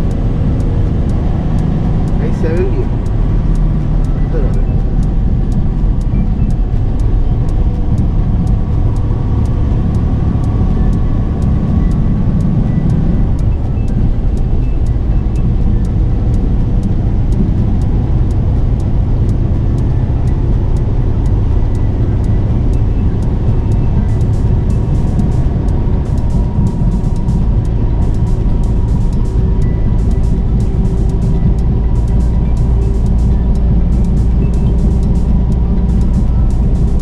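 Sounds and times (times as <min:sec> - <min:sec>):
background music with ticking beat: 0:00.0 - 0:37.0
truck engine and road drone: 0:00.0 - 0:37.0.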